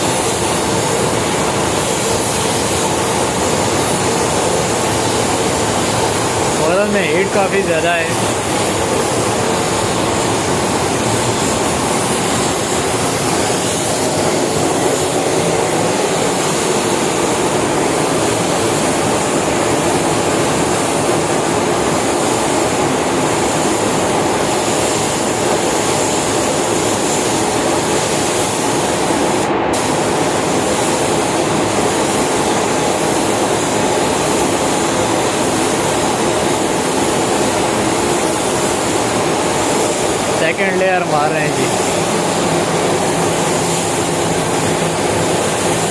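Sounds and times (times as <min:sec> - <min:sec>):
spray gun hissing: 0:00.0 - 0:45.9
ventilation fans rushing air: 0:00.0 - 0:45.9.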